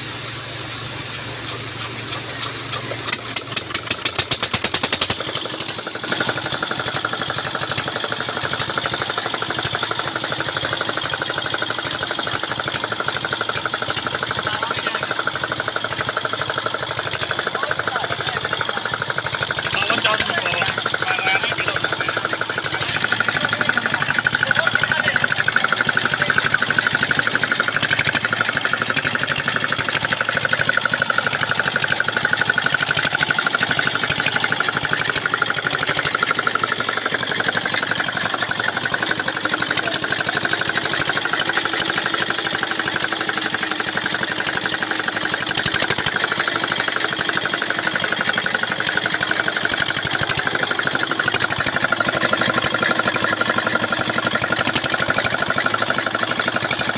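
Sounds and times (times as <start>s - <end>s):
small diesel engine running: 0.0s - 56.9s.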